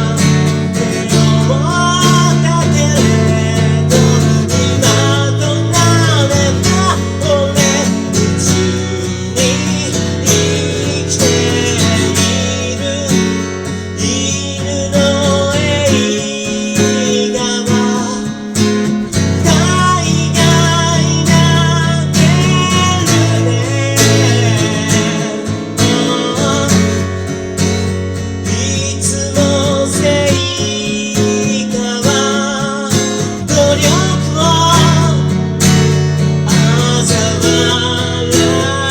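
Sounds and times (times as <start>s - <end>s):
man singing: 0.0s - 38.9s
strummed acoustic guitar: 0.0s - 38.9s.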